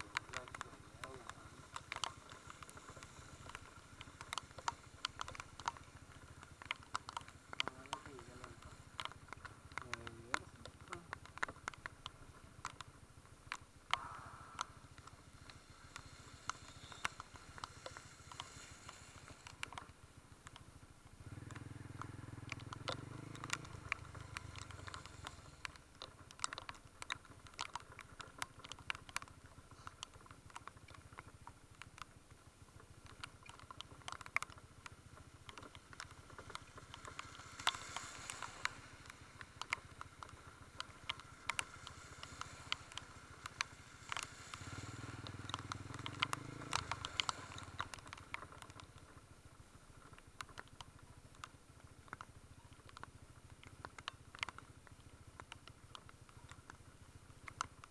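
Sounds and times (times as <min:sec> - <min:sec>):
motorcycle engine running: 0:00.0 - 0:57.9
raindrops striking camera: 0:00.0 - 0:57.9
wind: 0:00.0 - 0:57.9.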